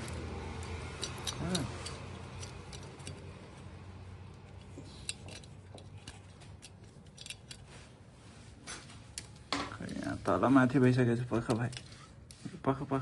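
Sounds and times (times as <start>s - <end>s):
small metallic clicks and scrapes: 0.0s - 8.0s, 8.6s - 12.5s.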